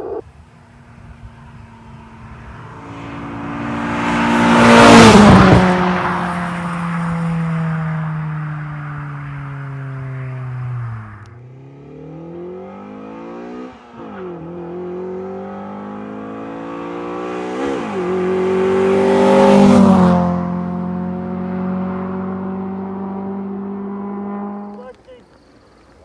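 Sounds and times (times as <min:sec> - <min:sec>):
car engine revving at full throttle: 0:01.0 - 0:24.8.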